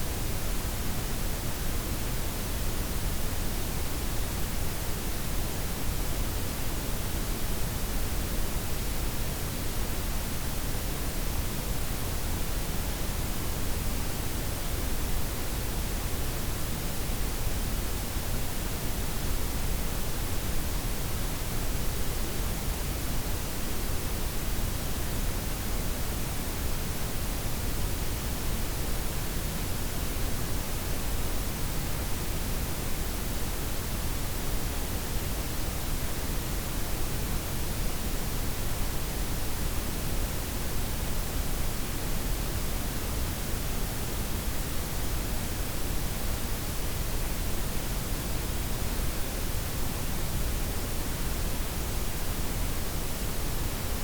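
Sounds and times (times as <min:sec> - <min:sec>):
steady noise hiss with low rumble: 0:00.0 - 0:54.0.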